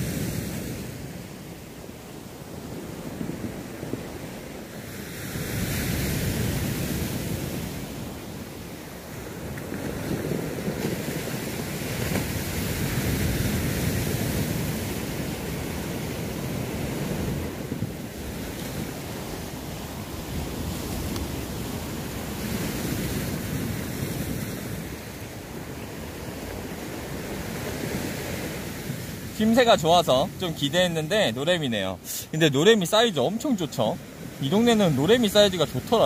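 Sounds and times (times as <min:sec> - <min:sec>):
surf washing against shore: 0:00.0 - 0:36.0.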